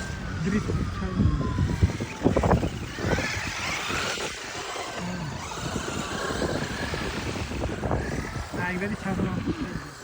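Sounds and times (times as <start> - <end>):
toy car electric motor whining: 0.0 - 10.0.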